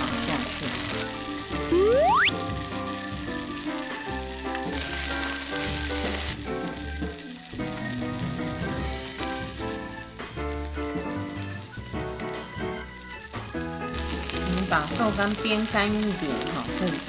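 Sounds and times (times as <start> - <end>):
tofu and mushrooms sizzling in oil: 0.0 - 17.0.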